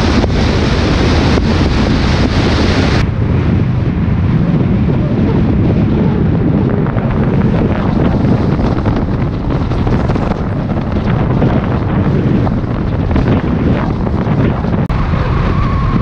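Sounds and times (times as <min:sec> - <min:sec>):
car rumbling on road: 0:00.0 - 0:16.0
wind buffeting microphone: 0:00.0 - 0:16.0.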